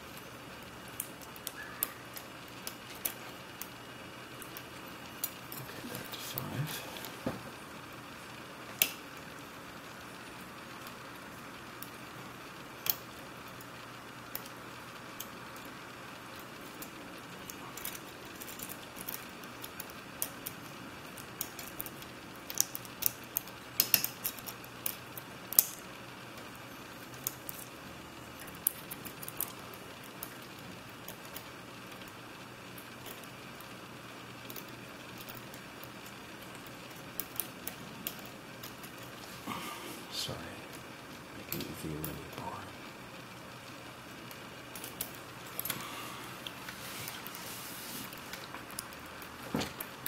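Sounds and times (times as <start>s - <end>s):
low background noise: 0.0s - 50.0s.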